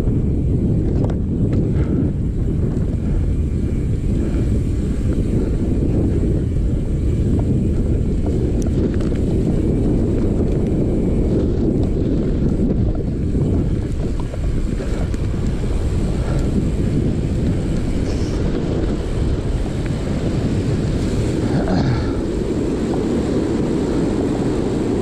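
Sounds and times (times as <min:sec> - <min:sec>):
bike rolling on dirt: 0:00.0 - 0:25.0
wind buffeting microphone: 0:00.0 - 0:25.0.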